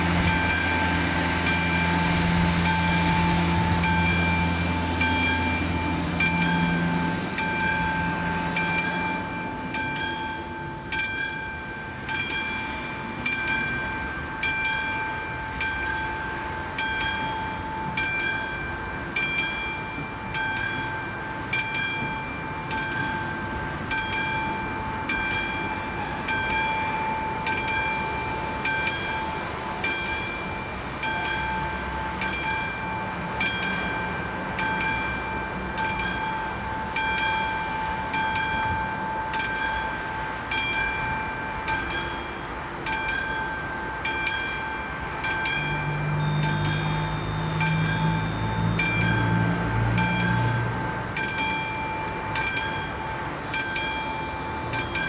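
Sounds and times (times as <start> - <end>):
vehicle engine hum: 0.0 - 10.9, 15.0 - 55.0
level crossing warning bell: 0.0 - 55.0.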